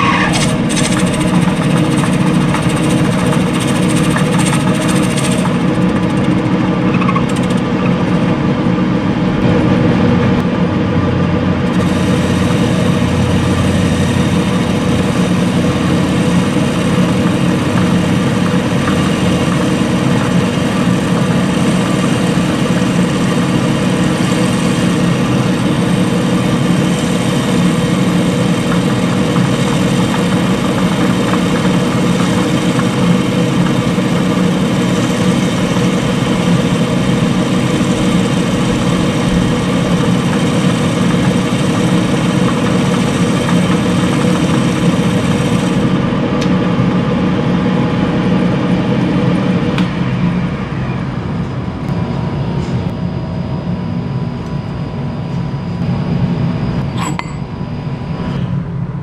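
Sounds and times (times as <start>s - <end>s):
metal lathe cutting: 0.0s - 49.9s.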